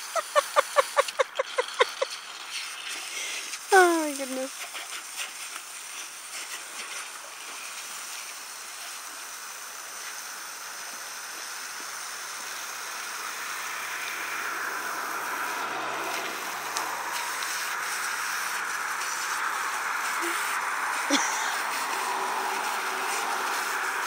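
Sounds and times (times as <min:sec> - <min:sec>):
hose water spraying on gravel: 0:00.0 - 0:24.0.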